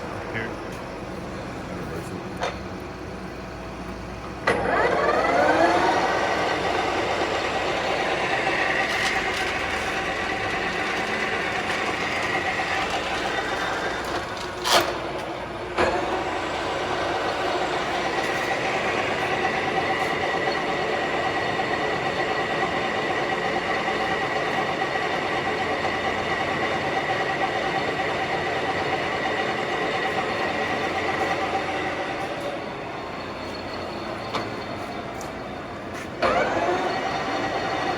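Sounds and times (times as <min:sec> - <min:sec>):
lathe mechanical whine: 0:00.0 - 0:37.9.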